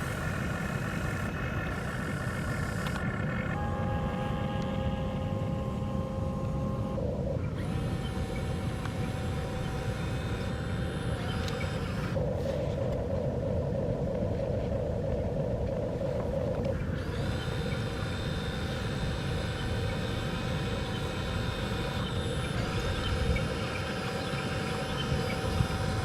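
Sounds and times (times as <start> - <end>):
diesel excavator engine running: 0.0 - 12.2, 16.9 - 26.0.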